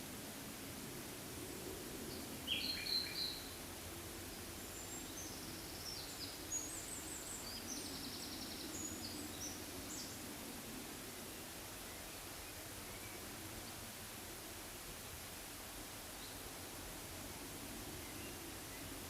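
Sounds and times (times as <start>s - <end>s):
steady low background noise: 0.0s - 19.0s.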